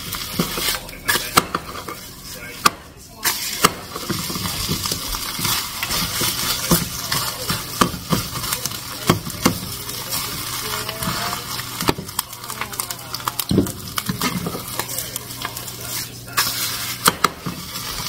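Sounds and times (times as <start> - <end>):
eggs sizzling in frying pan: 0.0 - 18.0
utensil scraping pan: 0.0 - 18.0
utensil tapping pan: 0.0 - 18.0.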